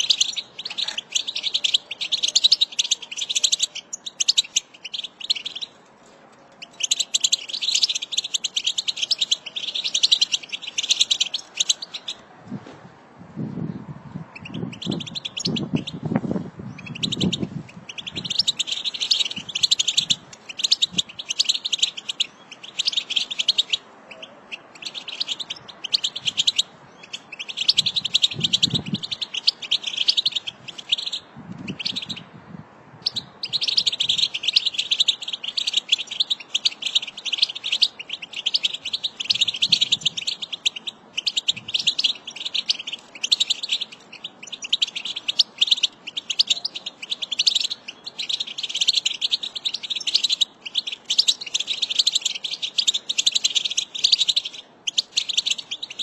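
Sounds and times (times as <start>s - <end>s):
finch singing: 0.0s - 5.8s, 6.5s - 12.2s, 14.1s - 32.4s, 33.0s - 56.0s.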